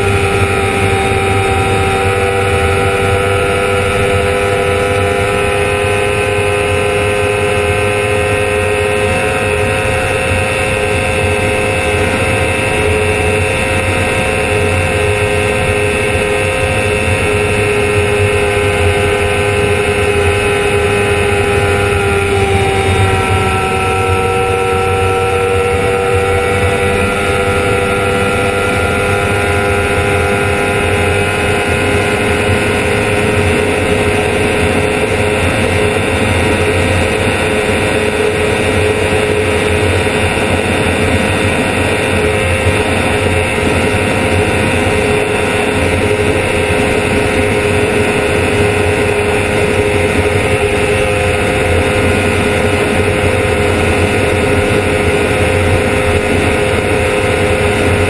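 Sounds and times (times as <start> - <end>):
motorcycle engine at high revs: 0.0 - 58.0
wind rush on microphone: 0.0 - 58.0.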